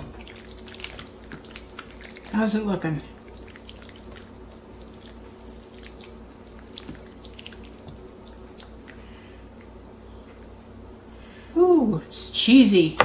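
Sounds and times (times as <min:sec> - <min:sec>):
wet squishing of food: 0:00.0 - 0:11.4
steady low hum: 0:00.0 - 0:13.0.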